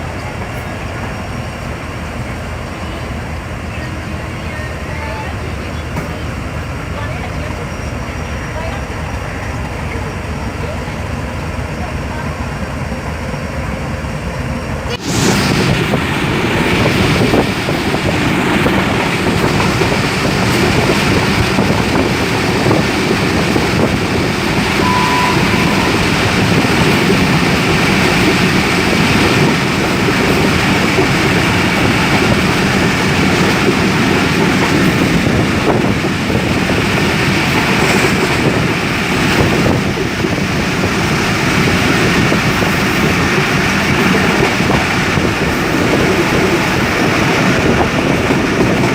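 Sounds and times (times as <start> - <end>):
train wheels rumbling: 0.0 - 48.9.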